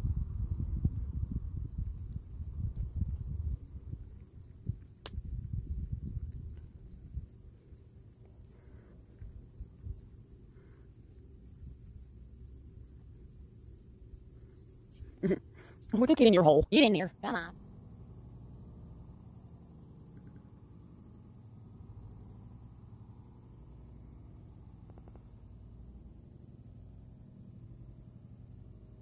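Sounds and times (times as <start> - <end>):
insect chirping trill: 0.0 - 29.0.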